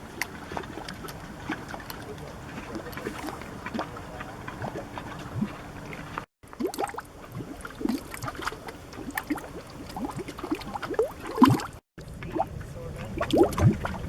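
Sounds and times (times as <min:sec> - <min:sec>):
mud pots bubbling: 0:00.0 - 0:14.0.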